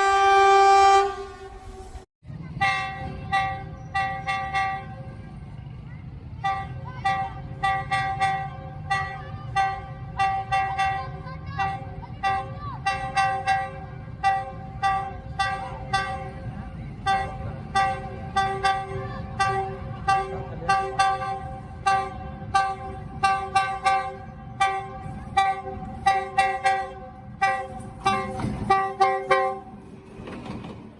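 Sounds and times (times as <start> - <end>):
locomotive air horn toots: 0.0 - 5.6, 6.4 - 29.9.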